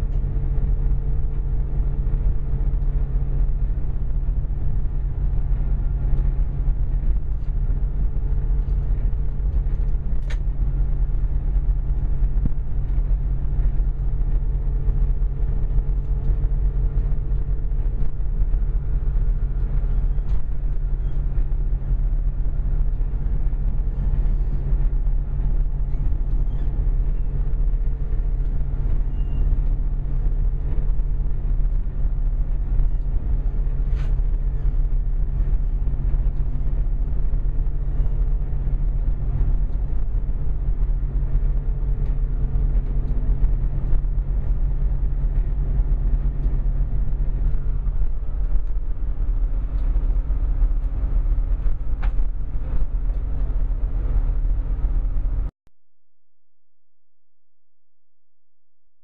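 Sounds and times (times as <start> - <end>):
train diesel engine drone: 0.0 - 55.5.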